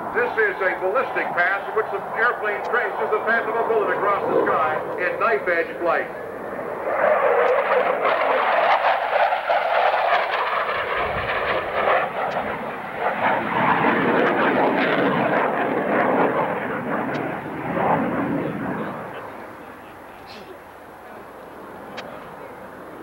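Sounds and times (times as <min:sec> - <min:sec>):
fighter jet flypast roar: 0:00.0 - 0:23.0.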